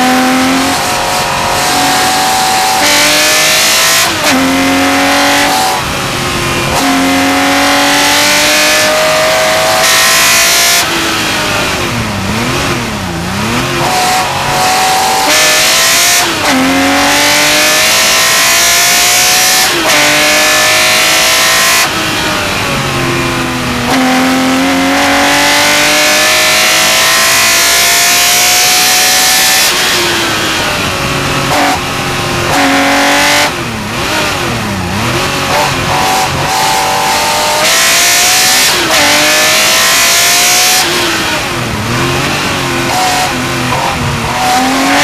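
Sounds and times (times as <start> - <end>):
racing engine at full throttle: 0.0 - 45.0.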